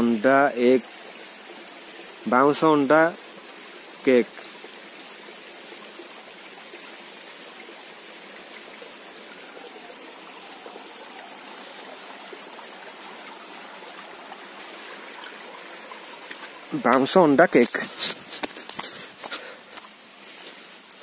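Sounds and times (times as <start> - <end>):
stream trickling over rocks: 0.0 - 21.0.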